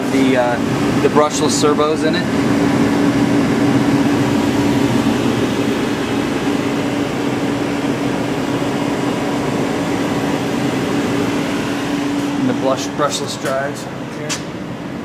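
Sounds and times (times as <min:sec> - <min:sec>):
machine humming with steady tone: 0:00.0 - 0:15.0.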